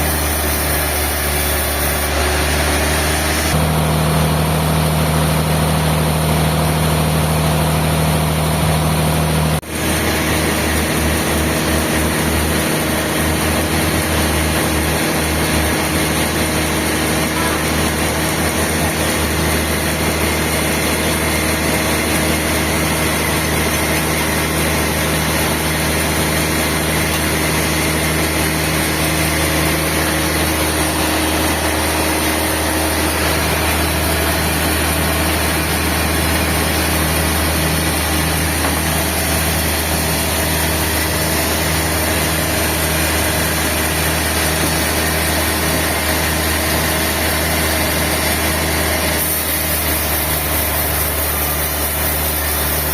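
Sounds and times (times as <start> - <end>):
sawmill machinery humming: 0.0 - 52.9.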